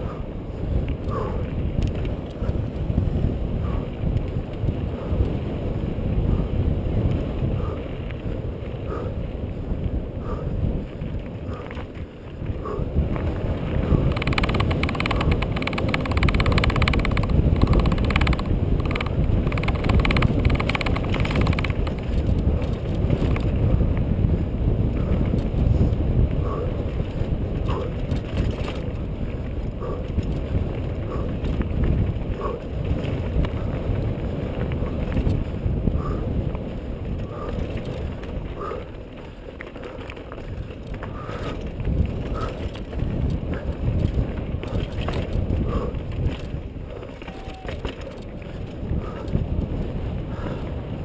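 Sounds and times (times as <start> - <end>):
mountain bike rumbling on dirt trail: 0.0 - 51.0
wind buffeting microphone: 0.0 - 51.0.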